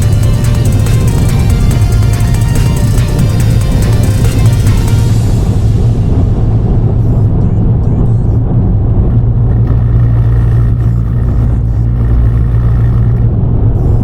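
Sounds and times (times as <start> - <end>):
car engine driving: 0.0 - 14.0
road noise: 0.0 - 14.0.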